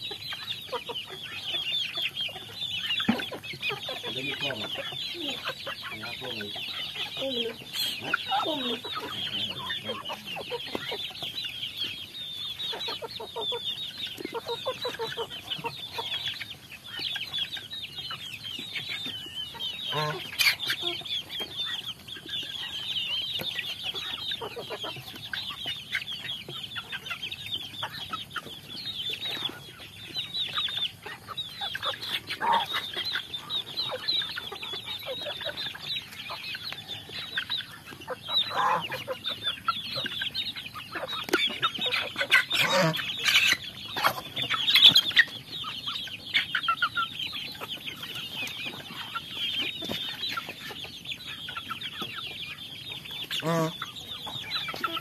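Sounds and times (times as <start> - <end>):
chickens clucking: 0.0 - 55.0
chicks peeping: 0.0 - 55.0.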